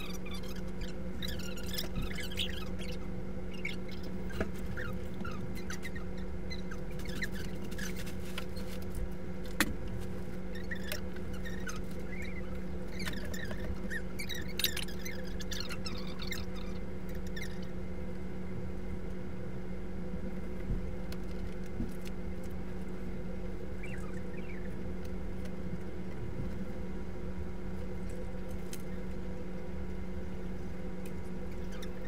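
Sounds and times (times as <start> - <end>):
steady indoor hum: 0.0 - 32.0.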